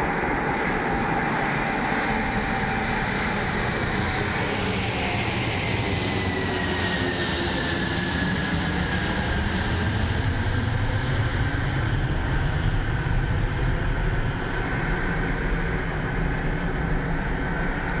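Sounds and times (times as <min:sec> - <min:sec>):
jet engines rumbling and whining: 0:00.0 - 0:18.0.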